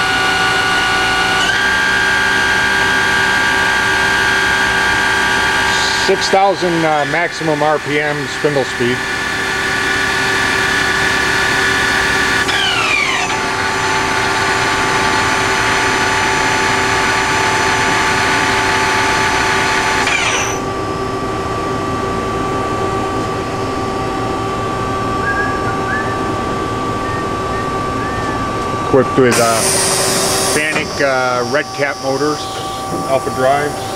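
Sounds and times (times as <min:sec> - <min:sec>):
machine spindle whining: 0:00.0 - 0:33.9
steady machine hum: 0:00.0 - 0:33.9.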